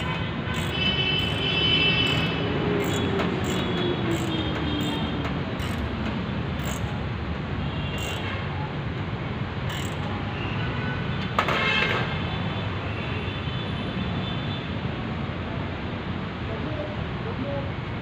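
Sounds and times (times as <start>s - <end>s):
outdoor traffic hum: 0.0s - 18.0s.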